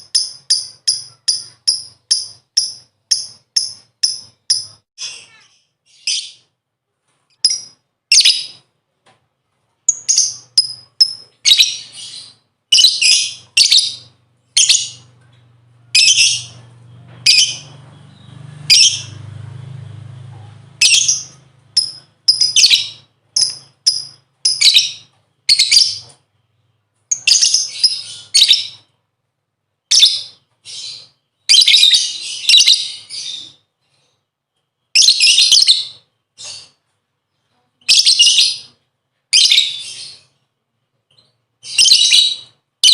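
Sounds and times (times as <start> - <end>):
lovebird chirping: 0.0 - 6.5, 7.3 - 8.7, 9.8 - 19.2, 20.3 - 29.0, 29.8 - 34.0, 34.8 - 40.5, 41.1 - 42.9.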